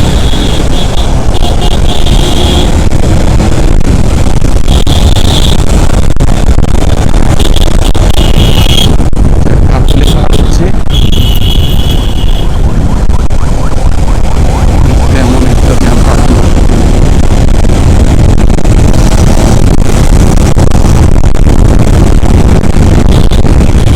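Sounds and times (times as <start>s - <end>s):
motorcycle engine and road noise: 0.0s - 23.9s.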